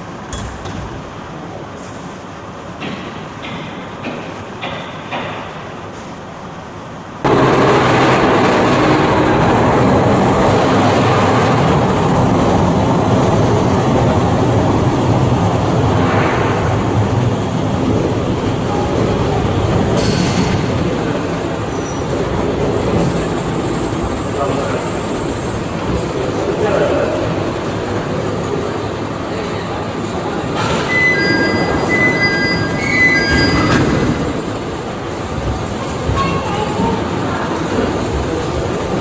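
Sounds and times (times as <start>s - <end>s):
cable car wheels rumbling on rails: 6.8s - 39.0s
station noise: 7.0s - 39.0s.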